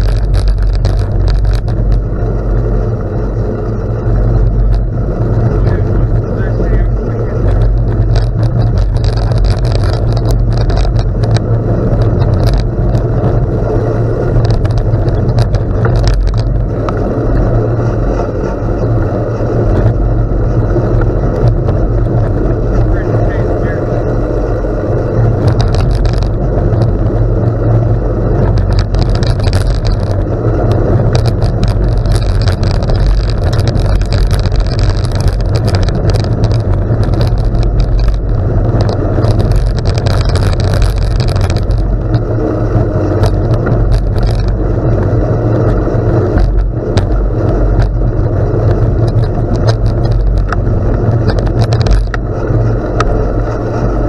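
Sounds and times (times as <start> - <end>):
tyres crunching on gravel: 0.0 - 54.0
wind buffeting microphone: 0.0 - 54.0.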